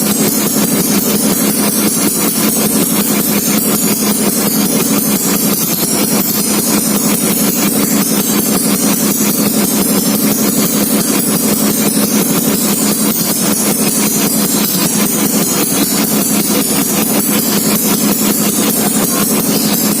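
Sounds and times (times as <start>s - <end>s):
scooter engine idling: 0.0s - 20.0s.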